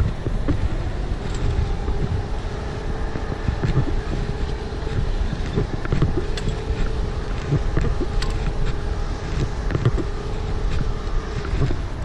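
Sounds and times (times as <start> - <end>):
steady hum: 0.0 - 12.0
wind buffeting microphone: 0.0 - 12.0.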